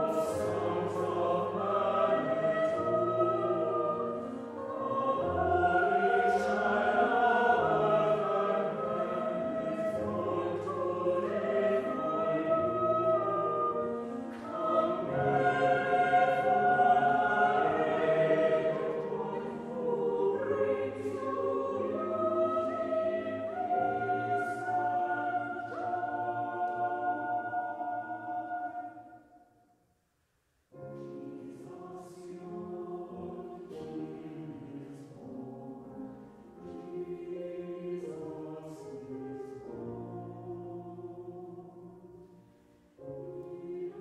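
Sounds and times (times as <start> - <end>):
choir singing held chords: 0.0 - 29.7, 31.0 - 44.0.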